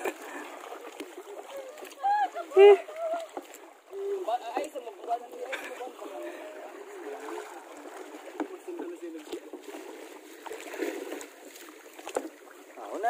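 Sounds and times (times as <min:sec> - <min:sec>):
paddles splashing in water: 0:00.0 - 0:13.0.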